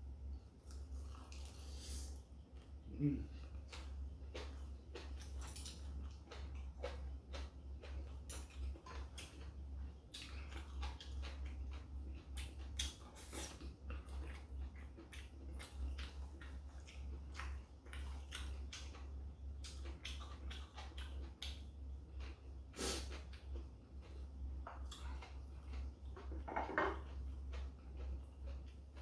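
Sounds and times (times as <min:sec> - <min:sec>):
steady low hum: 0:00.0 - 0:29.0
person chewing: 0:00.5 - 0:29.0.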